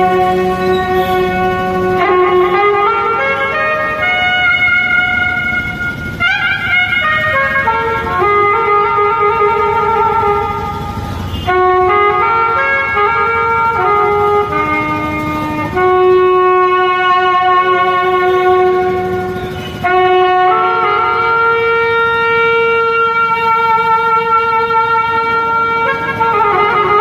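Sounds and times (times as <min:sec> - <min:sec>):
harmonium melody: 0:00.0 - 0:27.0.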